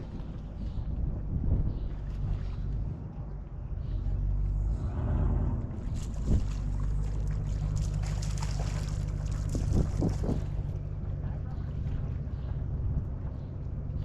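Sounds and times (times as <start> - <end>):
steady low hum: 0.0 - 14.0
wind buffeting microphone: 0.0 - 14.0.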